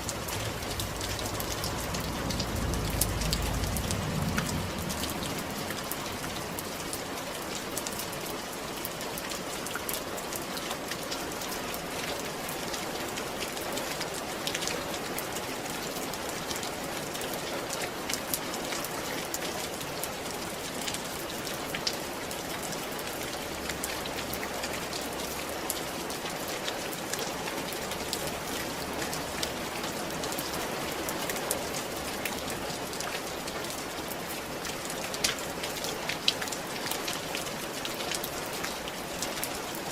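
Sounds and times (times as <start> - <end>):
rain hissing on a roof: 0.0 - 39.9
raindrops ticking: 0.0 - 39.9.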